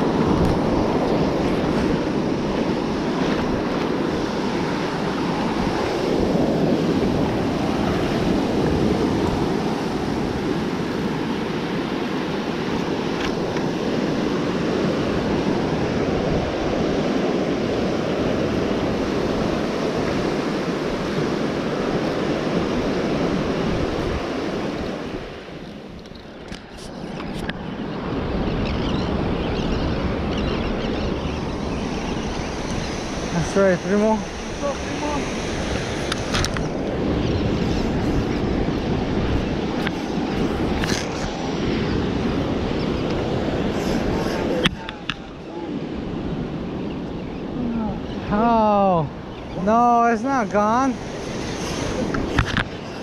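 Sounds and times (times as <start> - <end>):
ocean surf breaking: 0.0 - 53.0
wind buffeting microphone: 0.0 - 53.0.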